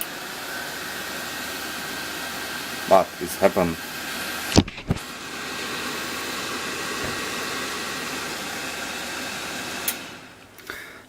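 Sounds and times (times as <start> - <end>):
computer cooling fans whirring: 0.0 - 10.9.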